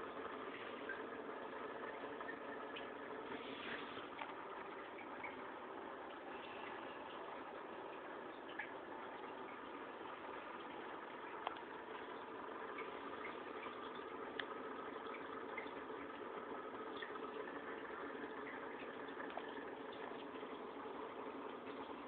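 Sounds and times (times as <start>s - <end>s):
aquarium filter water bubbling: 0.0s - 22.0s.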